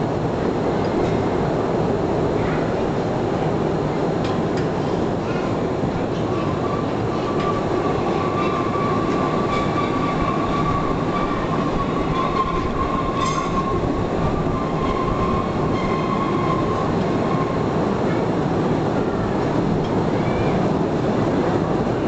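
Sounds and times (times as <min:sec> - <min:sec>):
electric train rumbling on track: 0:00.0 - 0:22.0.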